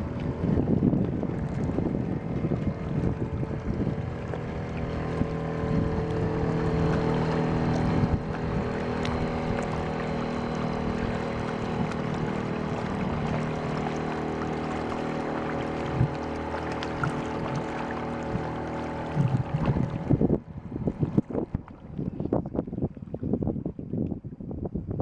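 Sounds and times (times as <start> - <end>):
outboard motor running: 0.0 - 24.8
wind buffeting microphone: 0.0 - 25.0.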